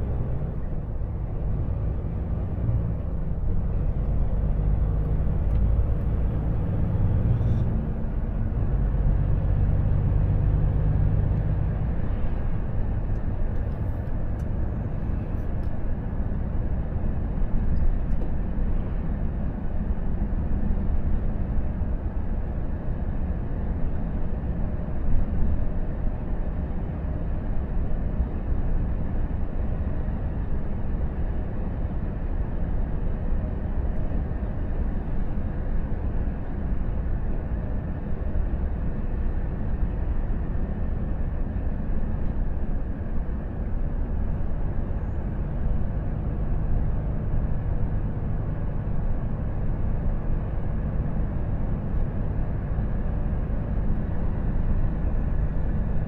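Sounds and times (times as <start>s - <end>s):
truck engine from inside cab: 0.0s - 56.0s.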